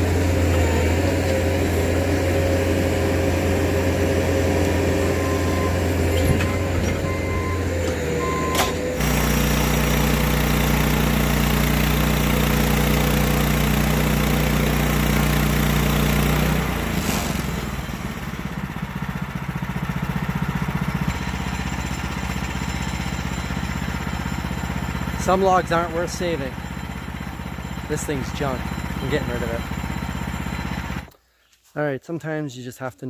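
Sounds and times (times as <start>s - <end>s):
gas engine running: 0.0s - 31.2s.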